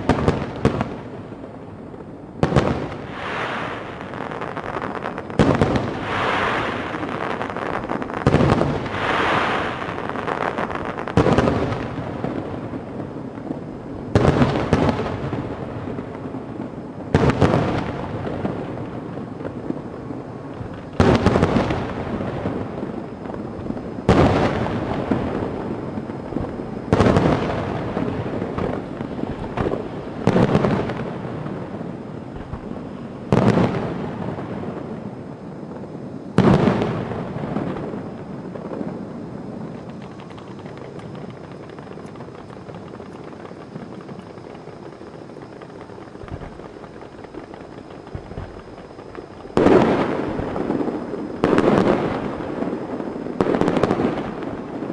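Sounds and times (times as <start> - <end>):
fireworks bursting with echoing rumble: 0.0 - 54.9.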